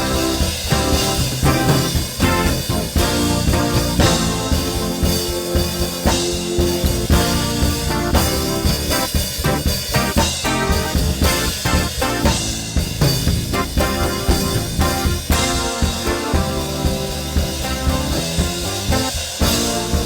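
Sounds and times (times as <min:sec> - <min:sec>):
drum kit beat: 0:00.0 - 0:20.0
sustained band chords: 0:00.0 - 0:20.0.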